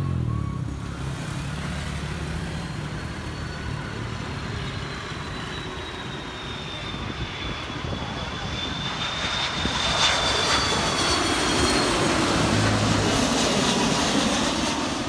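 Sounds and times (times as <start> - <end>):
jet airliner engines whining: 0.0 - 15.0
road traffic rumble: 0.0 - 15.0.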